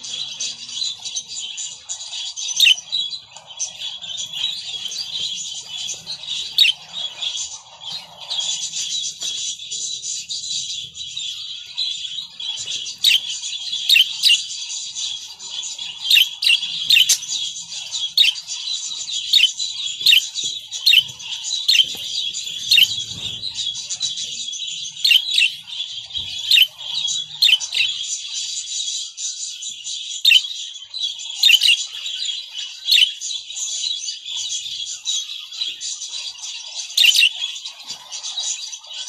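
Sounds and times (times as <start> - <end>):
budgerigars chattering: 0.0 - 39.0
sharp bird chirps: 0.0 - 39.0.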